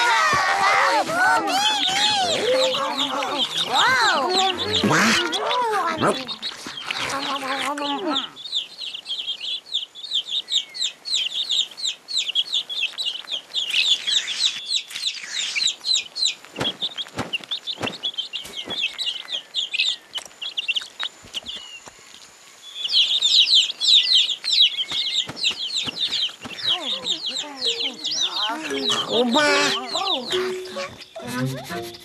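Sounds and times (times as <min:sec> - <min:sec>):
cartoon baby birds cheeping: 0:00.8 - 0:21.6, 0:22.8 - 0:32.0.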